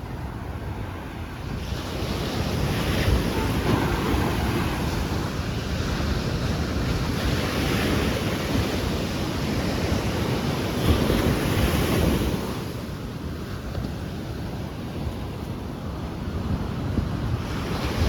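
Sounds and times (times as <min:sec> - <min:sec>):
surf breaking on a beach: 0:00.0 - 0:18.0
wind gusting on microphone: 0:00.0 - 0:18.0.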